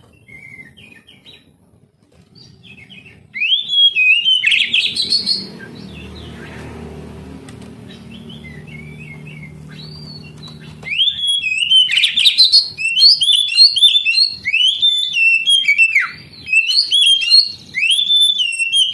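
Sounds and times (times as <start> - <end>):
songbird singing: 0.0 - 1.6, 2.3 - 18.9
low steady hum: 0.0 - 16.6.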